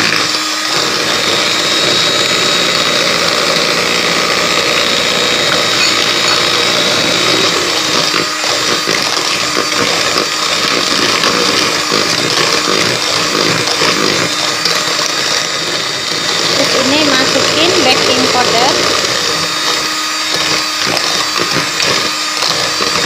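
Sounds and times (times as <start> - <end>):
electric hand mixer whisking batter: 0.0 - 23.0.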